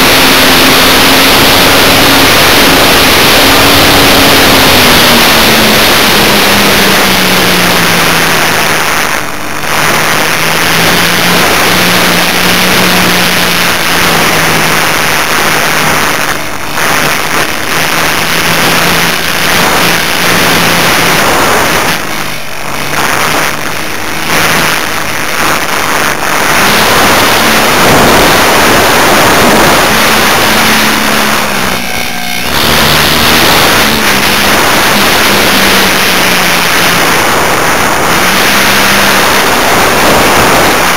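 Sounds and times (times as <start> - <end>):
electric motor and propeller: 0.0 - 40.9
wind noise: 0.0 - 40.9.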